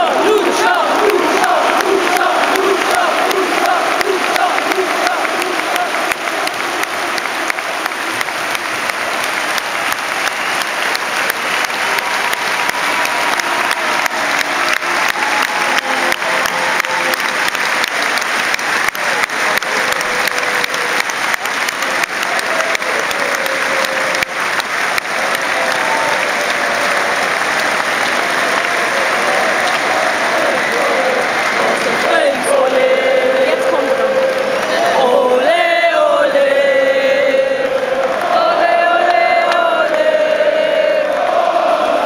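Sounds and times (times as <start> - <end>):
large crowd applauding: 0.0 - 42.0.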